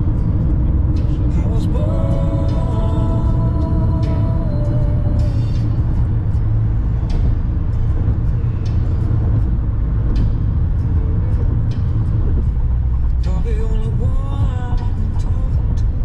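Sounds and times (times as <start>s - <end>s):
car driving at highway speed: 0.0s - 16.0s.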